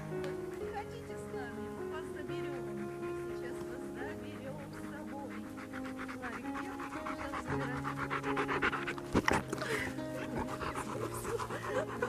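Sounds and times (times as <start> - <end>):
dog panting: 0.0 - 12.0
soft background music: 0.0 - 12.0.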